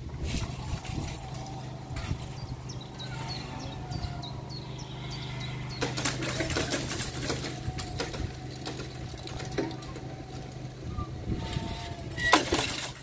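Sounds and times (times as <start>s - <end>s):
barrier motor hum: 0.0s - 13.0s
barriers rattling and clacking: 0.0s - 13.0s.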